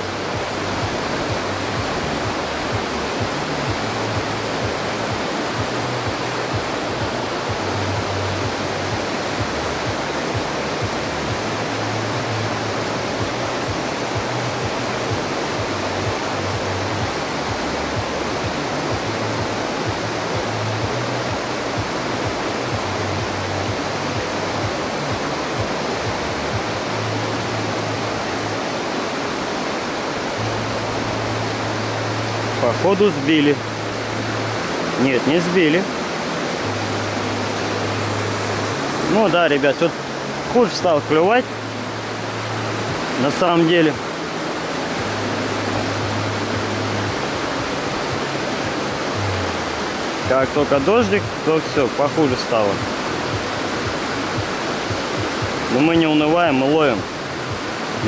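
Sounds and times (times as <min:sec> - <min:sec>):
water rushing through a dam: 0:00.0 - 0:58.0.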